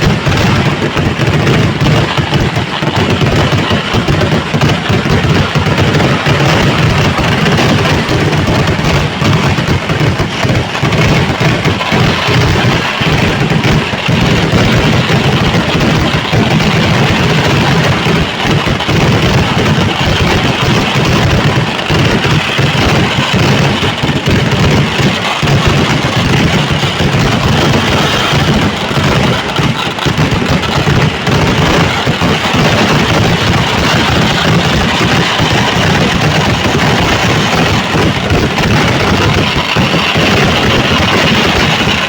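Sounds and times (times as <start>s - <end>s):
fireworks crackle: 0.0s - 42.0s
fireworks explosions: 0.0s - 42.0s.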